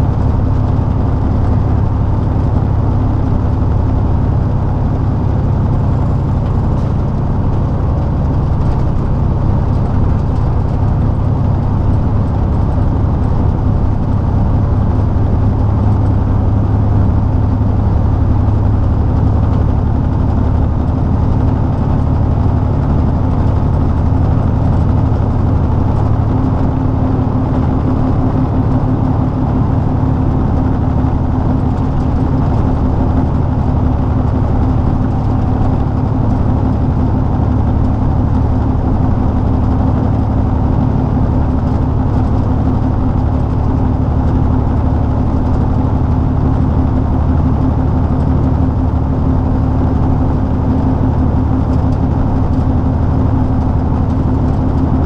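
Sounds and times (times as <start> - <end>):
truck diesel engine drone: 0.0 - 55.0.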